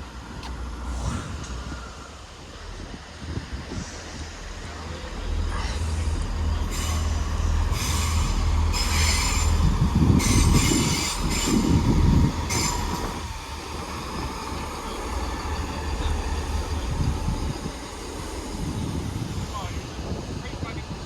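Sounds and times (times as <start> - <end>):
diesel train rumble: 0.0 - 21.0.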